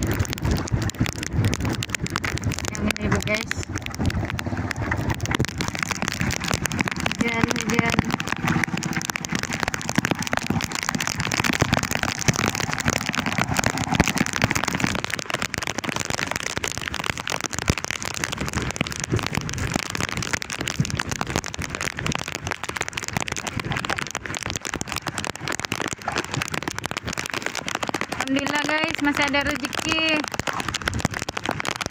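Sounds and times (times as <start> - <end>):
heavy rain pelting down: 0.0 - 31.9.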